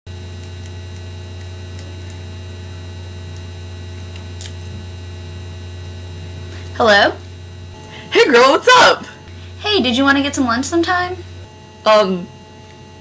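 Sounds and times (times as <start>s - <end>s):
low electrical mains hum: 0.1s - 13.0s.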